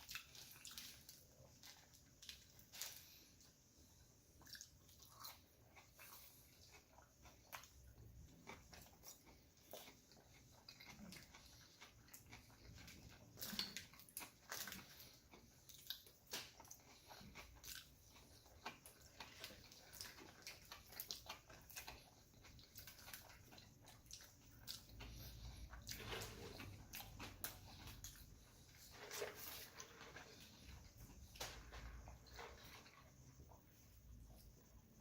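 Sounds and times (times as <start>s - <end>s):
close-up chewing: 0.0s - 35.0s.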